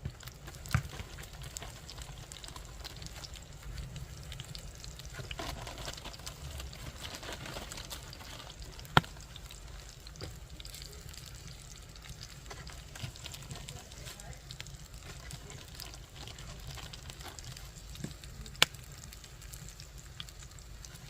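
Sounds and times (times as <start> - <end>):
meat sizzling in a pan: 0.0 - 21.0
small crackles: 0.0 - 21.0.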